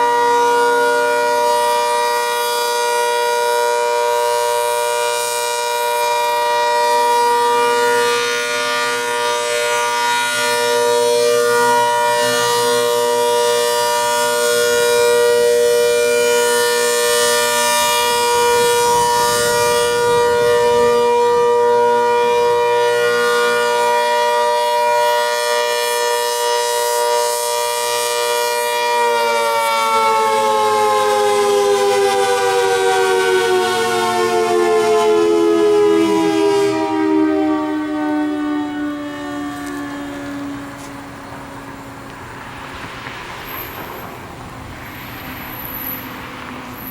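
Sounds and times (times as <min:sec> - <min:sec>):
siren steady tone winding down: 0:00.0 - 0:42.8.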